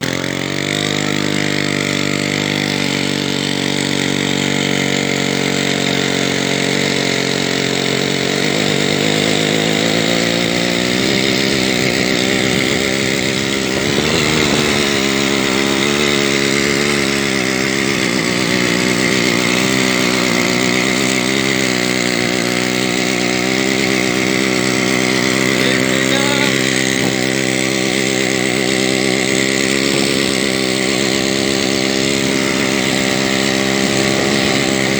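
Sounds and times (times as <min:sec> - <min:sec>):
two-stroke engine running loudly: 0:00.0 - 0:34.9.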